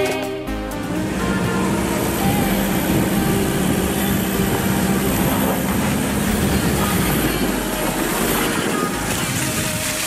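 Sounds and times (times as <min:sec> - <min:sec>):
suv engine running at low revs: 0:00.5 - 0:10.0.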